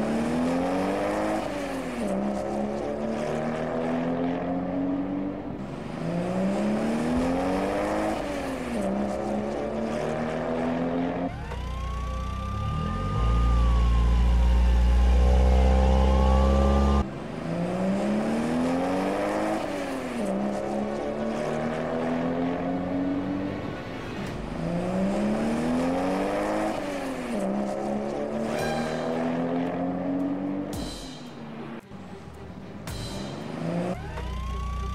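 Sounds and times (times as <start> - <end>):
car engine revving: 0.0 - 31.8, 32.9 - 34.9.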